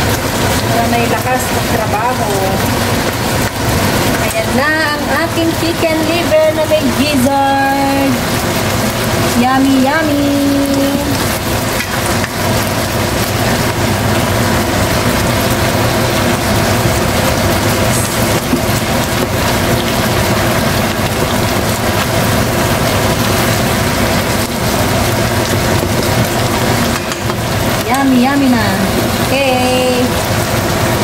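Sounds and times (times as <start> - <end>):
food sizzling in frying pan: 0.0 - 31.0
steady hum: 0.0 - 31.0.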